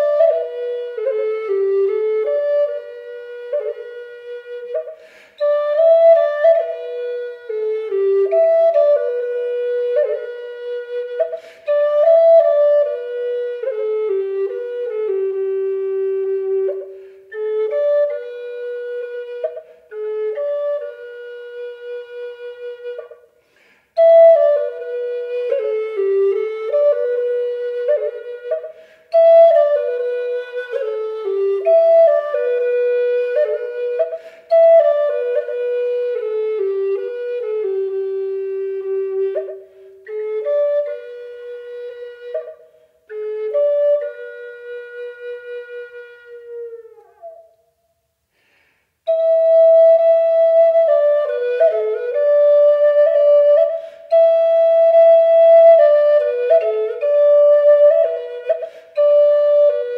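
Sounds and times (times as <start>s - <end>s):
solo flute melody: 0.0s - 48.3s, 48.9s - 59.9s.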